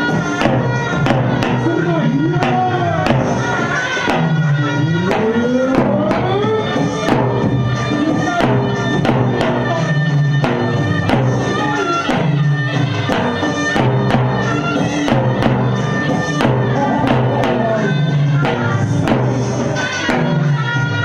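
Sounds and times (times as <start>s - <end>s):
traditional dance music: 0.0s - 21.0s.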